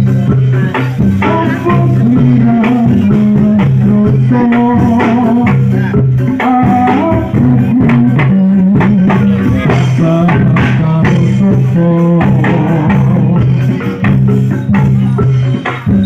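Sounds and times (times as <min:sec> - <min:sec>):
percussion strikes: 0:00.0 - 0:16.0.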